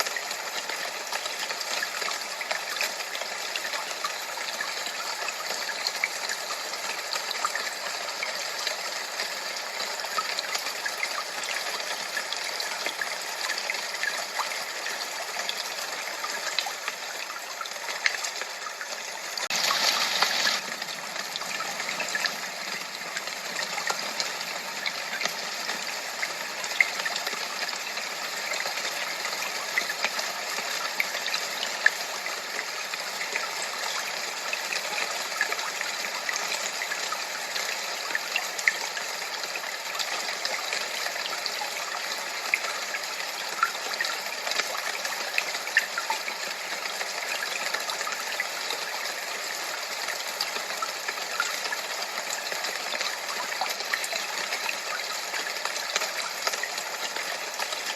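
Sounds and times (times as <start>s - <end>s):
running water splashing: 0.0s - 57.9s.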